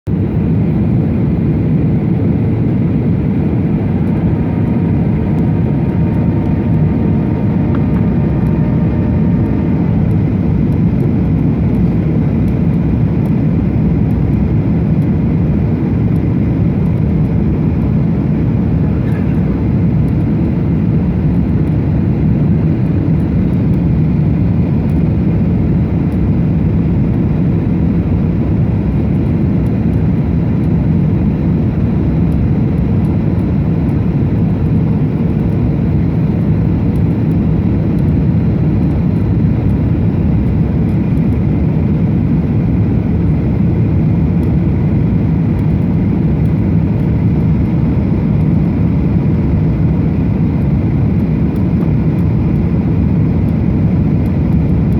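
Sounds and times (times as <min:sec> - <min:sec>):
airplane cabin rumble: 0:00.1 - 0:54.9.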